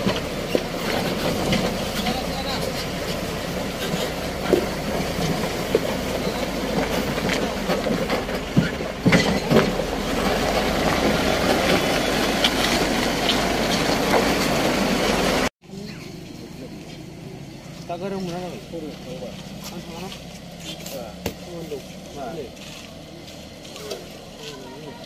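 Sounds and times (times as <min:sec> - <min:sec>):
blade pushing gravel: 0:00.0 - 0:15.5, 0:19.2 - 0:24.8
diesel engine running: 0:00.0 - 0:25.0.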